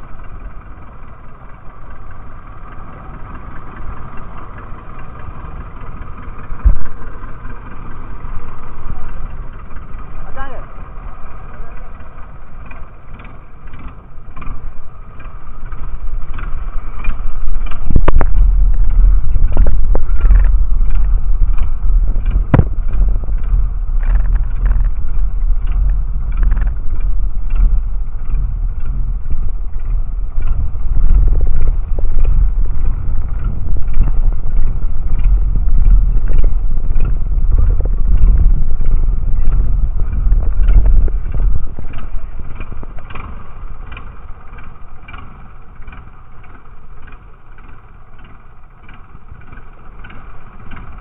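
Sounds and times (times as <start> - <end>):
boat engine running: 0.0 - 51.0
water and wind rumble: 0.0 - 51.0
sharp engine knocks: 2.7 - 51.0.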